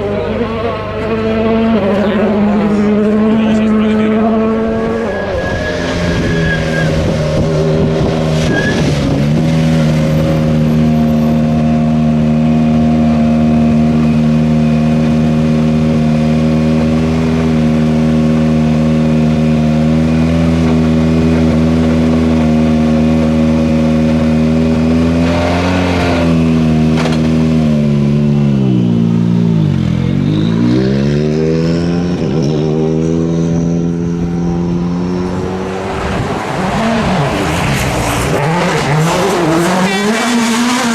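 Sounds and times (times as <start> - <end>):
rally car engine at high revs: 0.0 - 40.9.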